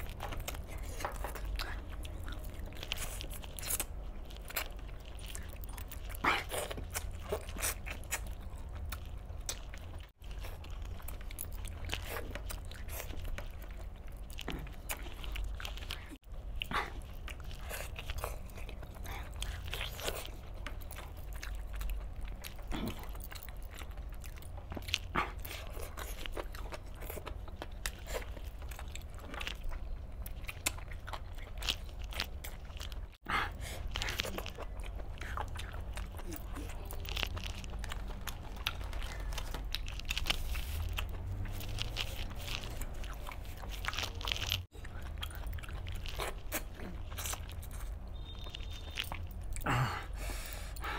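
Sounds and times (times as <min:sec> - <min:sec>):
chewing and crunching: 0:00.0 - 0:50.9.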